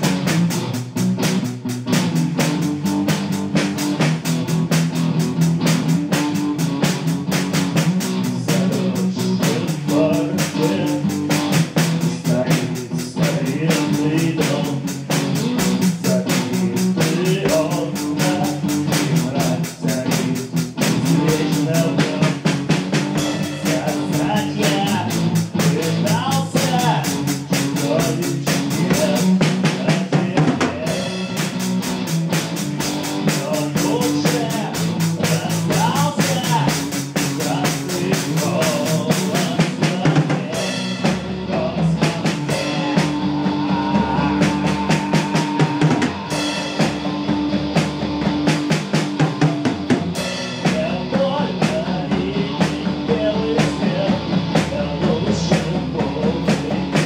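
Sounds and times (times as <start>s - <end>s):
drum kit beat: 0.0s - 57.0s
electric guitar through amp: 0.0s - 57.0s.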